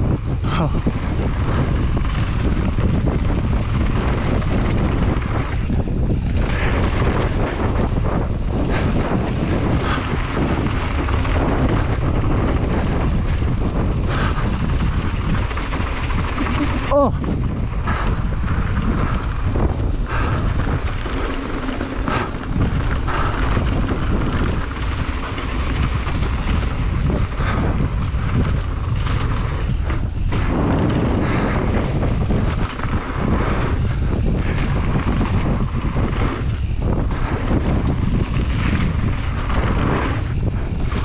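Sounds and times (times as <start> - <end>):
bike knocking and rattling: 0.0 - 41.0
tyres on wet dirt trail: 0.0 - 41.0
wind buffeting microphone: 0.0 - 41.0.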